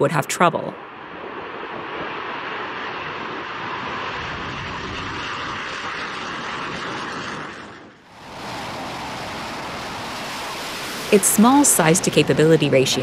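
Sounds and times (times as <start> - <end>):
jet aircraft flying low: 0.0 - 13.0.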